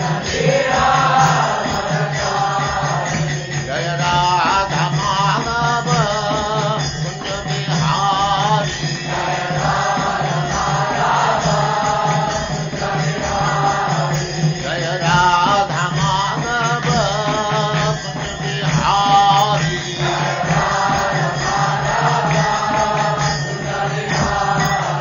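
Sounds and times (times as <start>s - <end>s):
chanting a mantra: 0.0s - 25.0s.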